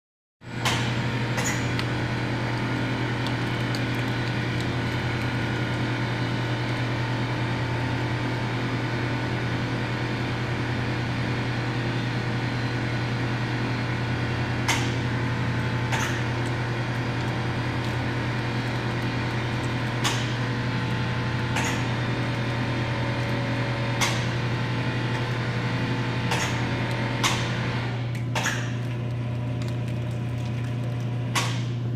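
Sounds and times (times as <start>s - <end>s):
loud machine hum: 0.4s - 31.9s.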